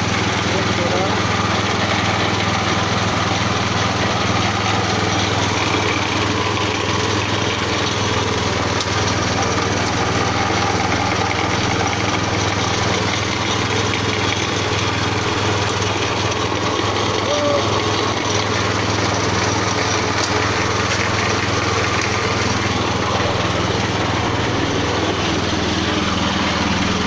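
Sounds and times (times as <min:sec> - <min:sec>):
pellet press motor droning: 0:00.0 - 0:27.0.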